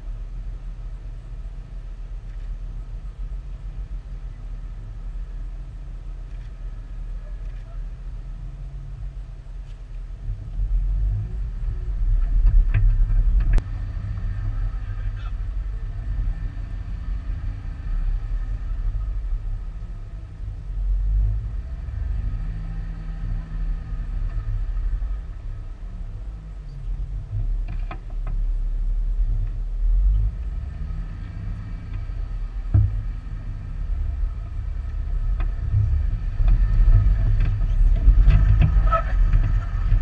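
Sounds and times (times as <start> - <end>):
vehicle engine low rumble: 0.0 - 40.0.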